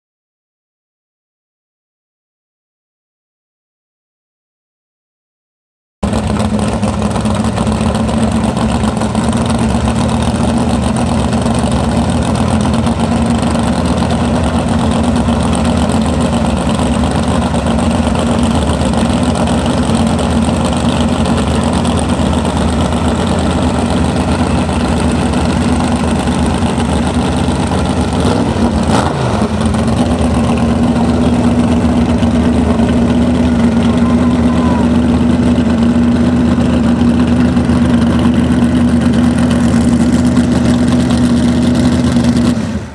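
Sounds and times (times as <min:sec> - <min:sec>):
boat engine idling loudly: 0:06.0 - 0:42.9.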